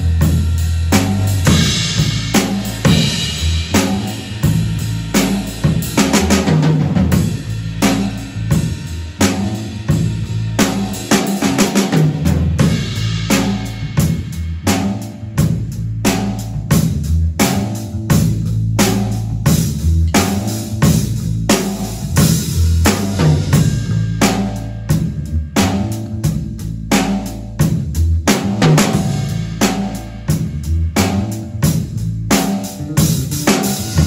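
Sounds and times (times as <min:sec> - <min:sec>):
drum kit groove: 0:00.0 - 0:34.0
electric bass line: 0:00.0 - 0:34.0.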